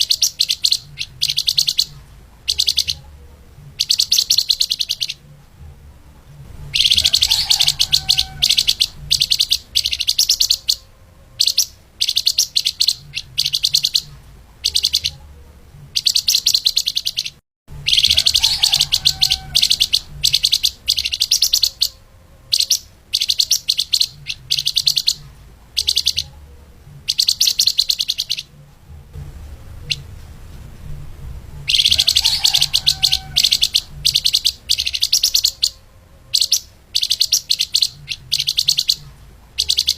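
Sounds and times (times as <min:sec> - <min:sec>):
songbird singing rapid high notes: 0:00.0 - 0:28.6, 0:31.6 - 0:39.9
low steady hum: 0:00.0 - 0:39.9.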